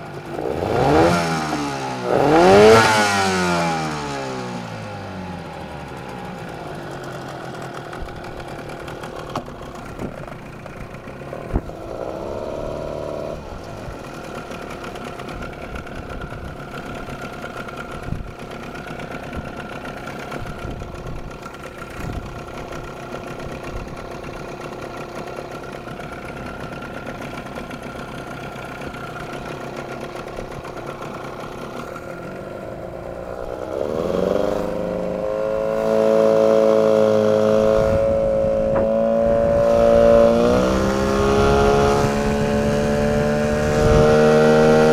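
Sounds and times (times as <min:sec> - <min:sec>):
outboard motor idling: 0:00.0 - 0:44.9.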